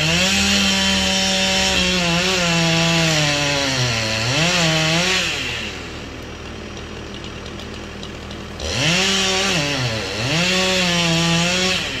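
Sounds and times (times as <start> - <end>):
chainsaw idling and revving: 0.0 - 12.0.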